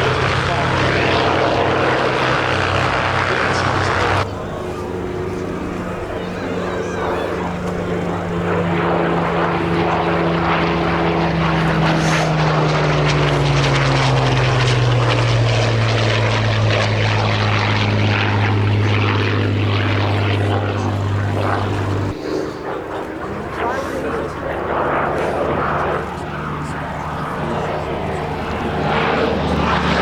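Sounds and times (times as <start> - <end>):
propeller plane engine flying past: 0.0 - 30.0.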